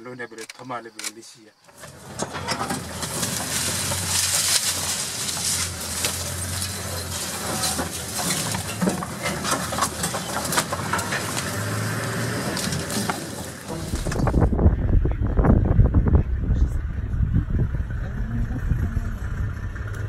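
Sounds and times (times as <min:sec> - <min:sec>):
vehicle rattling and knocking: 0:01.7 - 0:20.0
low engine drone: 0:02.3 - 0:20.0.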